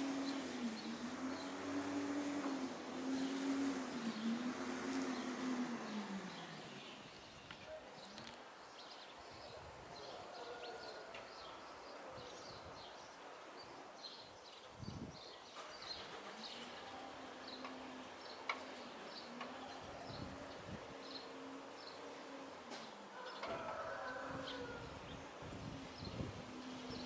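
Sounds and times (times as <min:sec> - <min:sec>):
sparrows chirping: 0:00.0 - 0:27.0.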